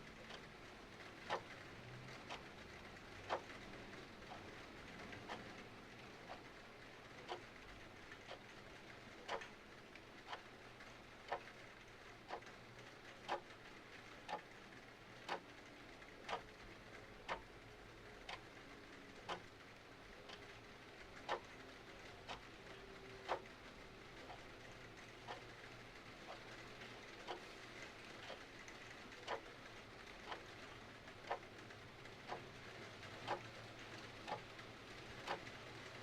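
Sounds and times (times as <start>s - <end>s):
faint hiss of rain: 0.0s - 36.0s
mechanical clock ticking: 0.2s - 36.0s.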